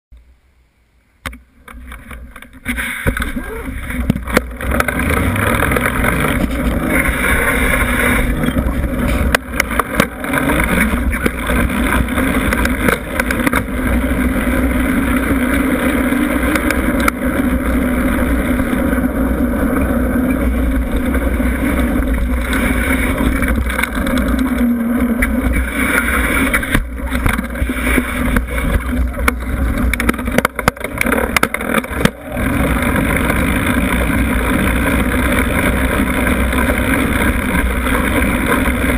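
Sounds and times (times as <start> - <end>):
bike knocks and clicks: 1.2 - 18.1, 21.0 - 38.9
bike tyres rumbling on pavement: 1.6 - 38.9.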